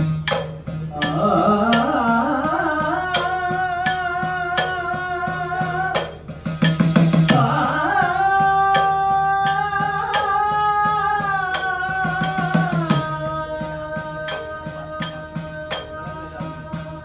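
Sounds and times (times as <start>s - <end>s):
person singing long notes: 0.0s - 6.3s, 7.3s - 17.0s
sharp ticks keeping time: 0.0s - 16.9s
hourglass drum strokes: 0.0s - 17.0s.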